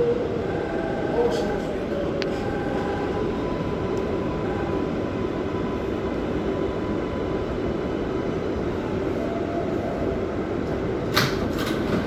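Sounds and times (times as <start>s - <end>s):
subway car wheels rumbling: 0.0s - 12.0s.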